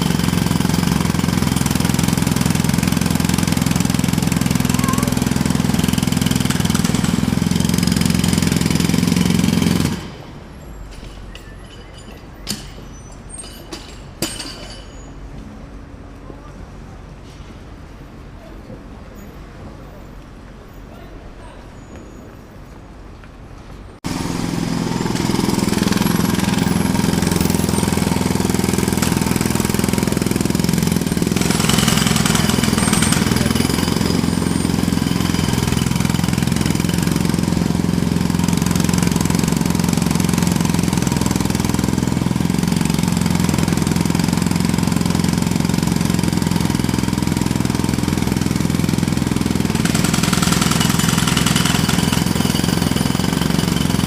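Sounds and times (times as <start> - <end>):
jackhammer hammering: 0.0 - 10.4, 11.3 - 15.0, 24.0 - 54.0.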